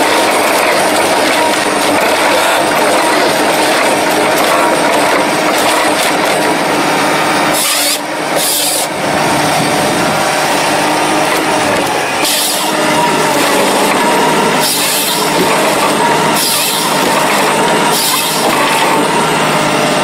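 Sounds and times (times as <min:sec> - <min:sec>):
saw rasping through log: 0:00.0 - 0:09.8, 0:10.4 - 0:20.0
machine engine and hydraulics running: 0:00.0 - 0:20.0.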